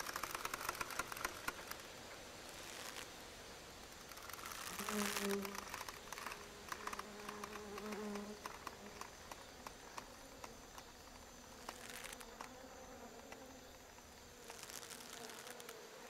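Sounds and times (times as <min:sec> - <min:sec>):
small ticks and clicks: 0:00.0 - 0:03.2, 0:03.9 - 0:15.9
flies buzzing faintly: 0:00.0 - 0:16.0.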